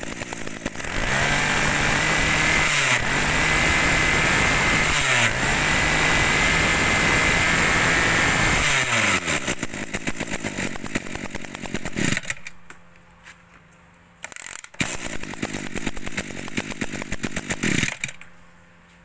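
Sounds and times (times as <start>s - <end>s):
brush cutter engine running: 0.0s - 12.5s, 14.3s - 18.3s.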